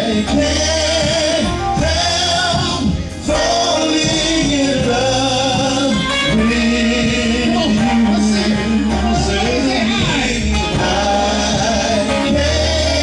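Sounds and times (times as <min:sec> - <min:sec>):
instrumental accompaniment with bass: 0:00.0 - 0:13.0.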